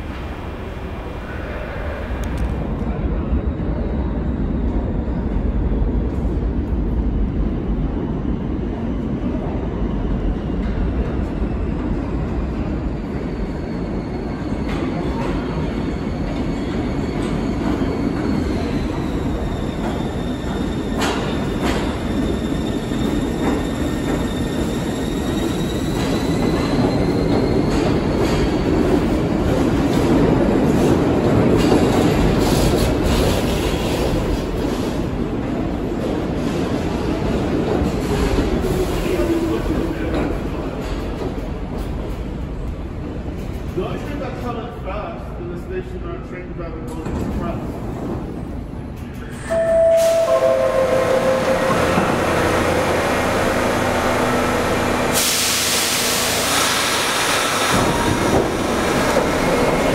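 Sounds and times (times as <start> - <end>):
subway train rumble: 0.0 - 59.9.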